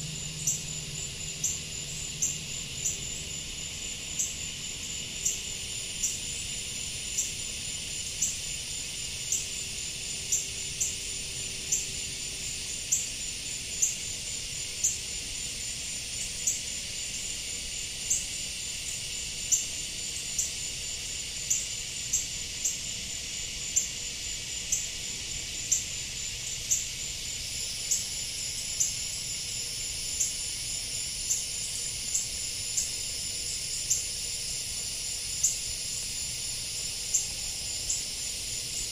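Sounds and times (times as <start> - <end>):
insect chirping: 0.0 - 38.9
insect chorus trilling: 0.0 - 38.9.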